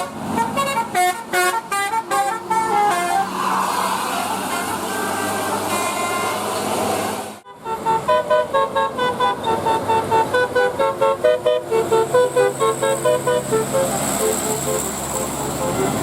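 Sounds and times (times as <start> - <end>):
musical air horn tune: 0.0 - 3.4, 4.0 - 16.0
traffic noise: 0.0 - 16.0.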